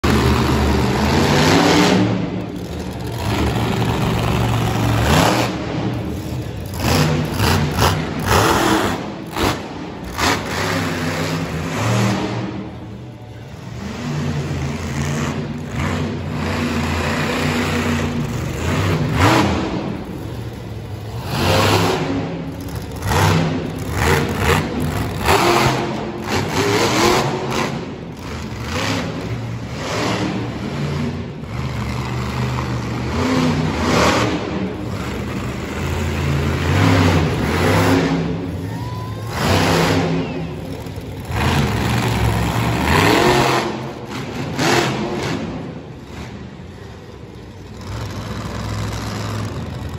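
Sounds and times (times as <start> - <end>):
monster truck engine revving: 0.0 - 49.9.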